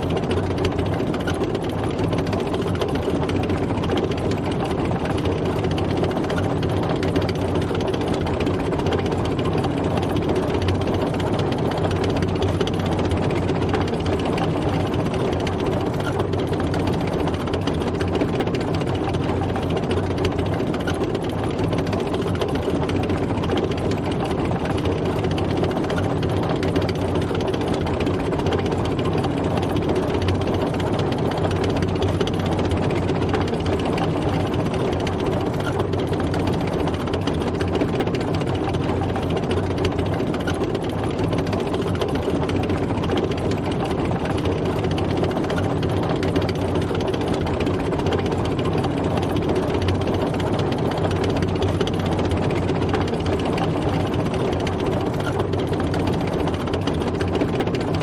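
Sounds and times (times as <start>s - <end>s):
dense even rattle: 0.0s - 58.0s
tank engine running: 0.0s - 58.0s.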